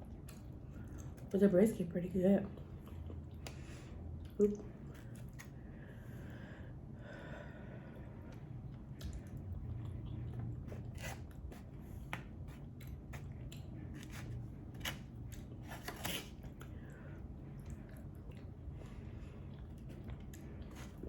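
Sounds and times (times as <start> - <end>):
person chewing food: 0.0 - 1.3, 2.5 - 6.9, 7.7 - 21.0.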